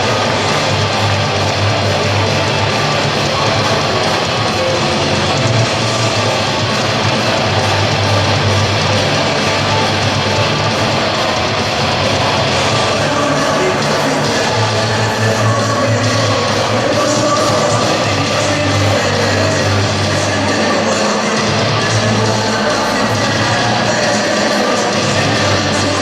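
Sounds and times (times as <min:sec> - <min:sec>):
rock music with distorted guitar: 0:00.0 - 0:26.0.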